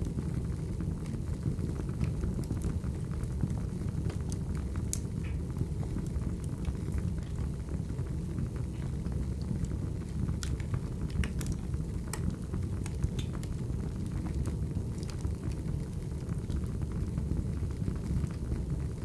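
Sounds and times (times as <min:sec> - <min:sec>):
fire rumbling: 0:00.0 - 0:19.0
wood crackling and popping: 0:00.0 - 0:19.0.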